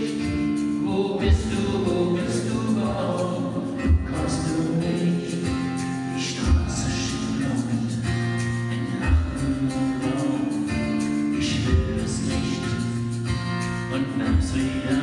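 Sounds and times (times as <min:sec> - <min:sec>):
acoustic guitars playing: 0:00.0 - 0:15.0
man singing: 0:00.0 - 0:15.0.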